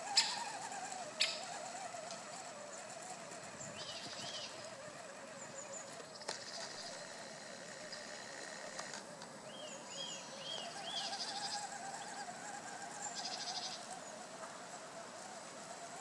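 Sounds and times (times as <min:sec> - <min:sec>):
buzzy bird trills: 0:00.0 - 0:16.0
electric motor whine: 0:00.0 - 0:16.0
songbirds whistling: 0:00.0 - 0:16.0.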